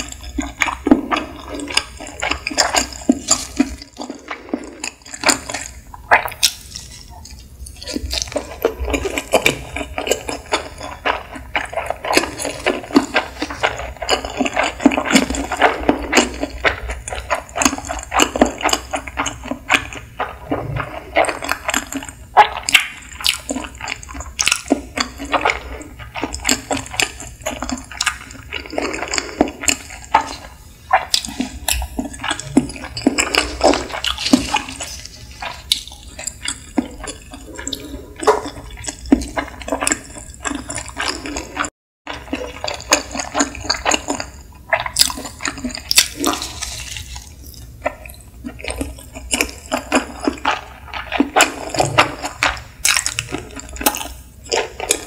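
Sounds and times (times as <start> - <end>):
wet chewing and mouth sounds: 0.0 - 55.0.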